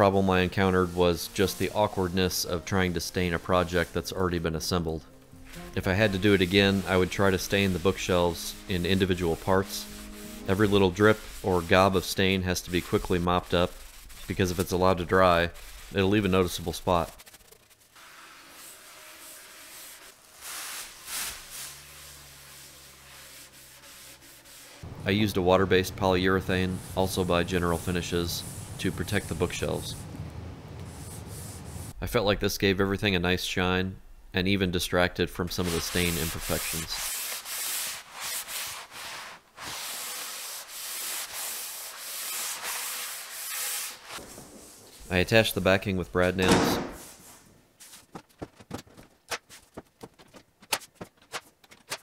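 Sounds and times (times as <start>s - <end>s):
gloved hand rubbing wood: 0.0s - 4.3s, 5.5s - 24.9s, 26.3s - 32.0s, 35.6s - 48.2s.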